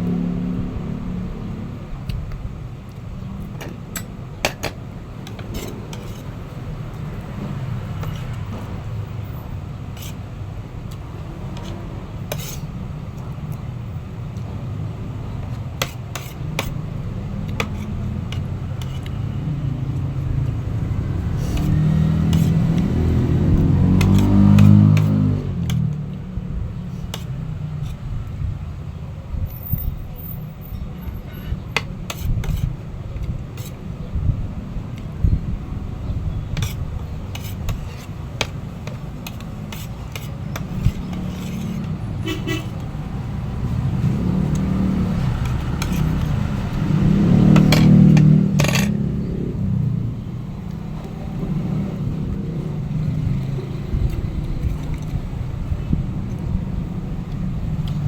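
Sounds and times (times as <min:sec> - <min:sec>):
motor vehicle engine rumble: 0:00.0 - 0:58.0.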